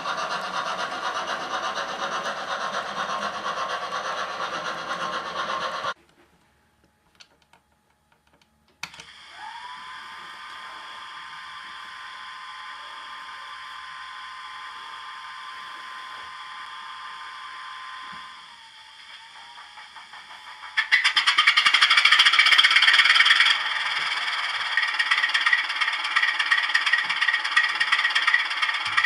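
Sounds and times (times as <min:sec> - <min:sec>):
model locomotive whine: 0:00.0 - 0:06.0, 0:09.1 - 0:29.0.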